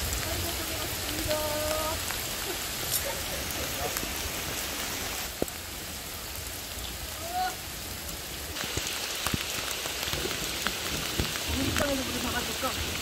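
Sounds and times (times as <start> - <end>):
heavy rain on rock: 0.0 - 13.0.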